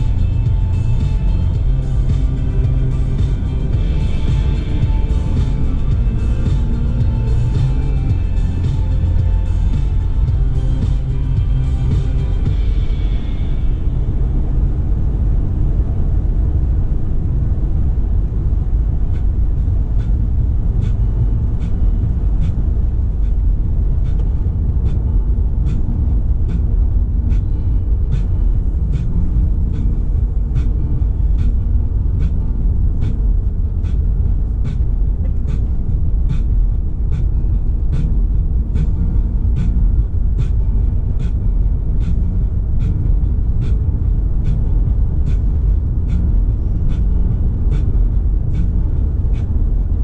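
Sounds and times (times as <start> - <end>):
car road rumble: 0.0 - 50.0.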